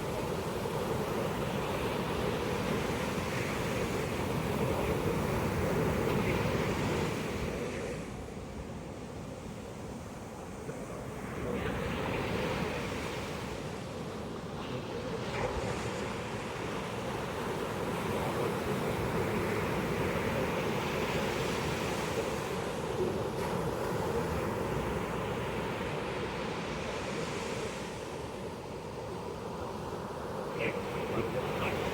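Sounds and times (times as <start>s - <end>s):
ocean waves breaking on beach: 0.0s - 31.9s.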